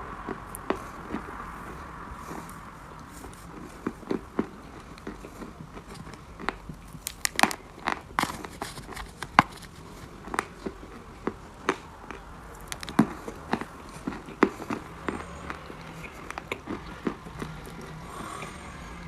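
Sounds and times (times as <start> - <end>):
chalk being chewed crunching: 0.2 - 19.0.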